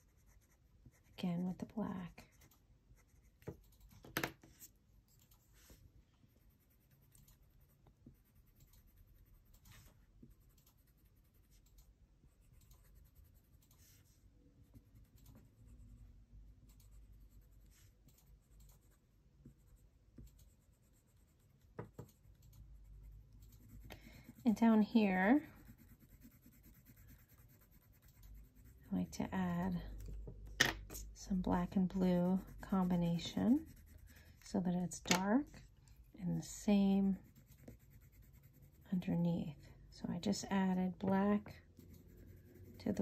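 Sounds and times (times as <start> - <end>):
pencil scratching on paper: 0.0 - 3.6, 5.4 - 11.7, 12.3 - 16.2, 16.8 - 30.1, 31.0 - 39.6, 40.2 - 43.0.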